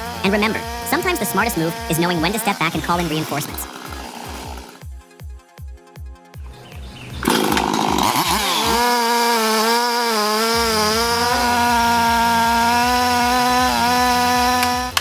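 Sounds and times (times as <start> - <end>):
chainsaw starting and revving: 0.0 - 4.9, 6.5 - 15.0.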